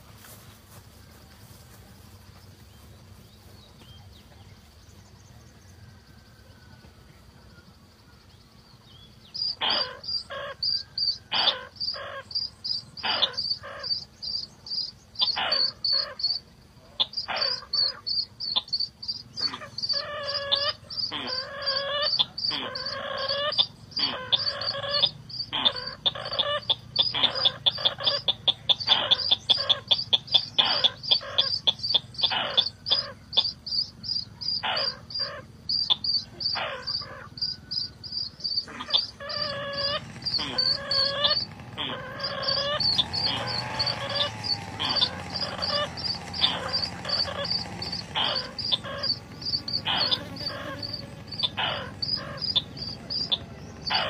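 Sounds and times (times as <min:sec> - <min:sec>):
birds calling sharp notes: 0:00.0 - 0:54.0
insects chirring: 0:00.0 - 0:54.0.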